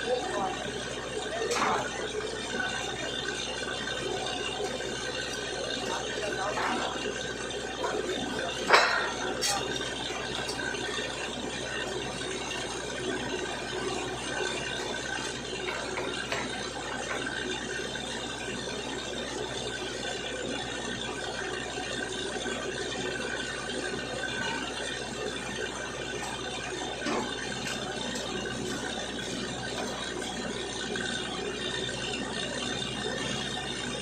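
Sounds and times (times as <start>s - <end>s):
drilling rig running: 0.0s - 34.0s.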